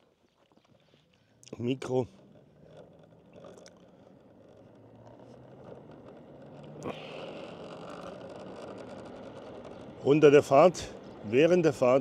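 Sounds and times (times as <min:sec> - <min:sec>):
vehicle engine and road noise: 0:00.6 - 0:12.0.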